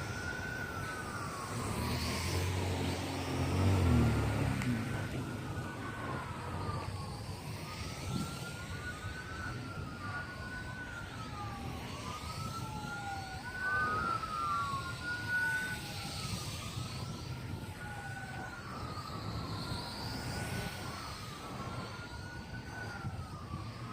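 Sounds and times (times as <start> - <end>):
emergency sirens wailing: 0.0 - 23.9
wind buffeting microphone: 0.0 - 23.9.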